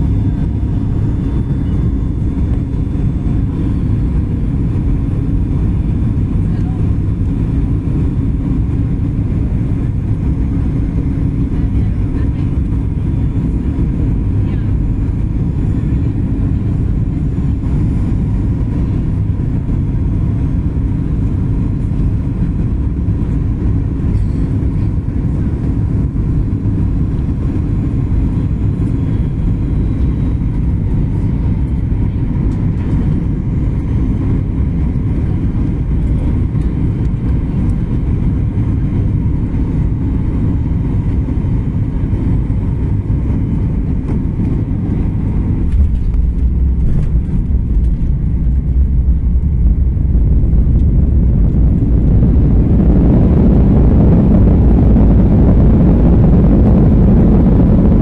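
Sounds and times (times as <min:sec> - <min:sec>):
faint steady whine: 0:00.0 - 0:58.0
jet engines and airflow rumbling: 0:00.0 - 0:58.0.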